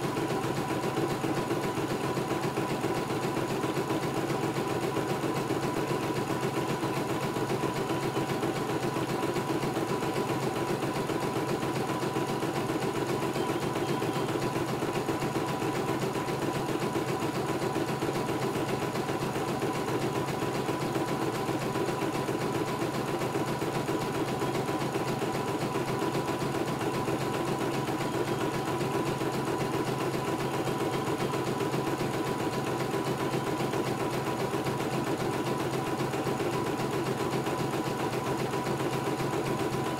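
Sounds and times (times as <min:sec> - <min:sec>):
embroidery machine needle stitching: 0:00.0 - 0:39.9
motor hum: 0:00.0 - 0:39.9.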